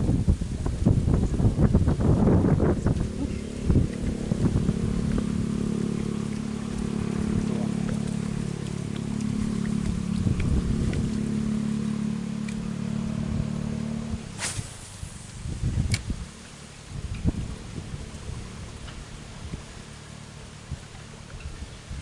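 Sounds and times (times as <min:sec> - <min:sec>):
motor hum: 0:01.1 - 0:14.4, 0:15.2 - 0:22.0.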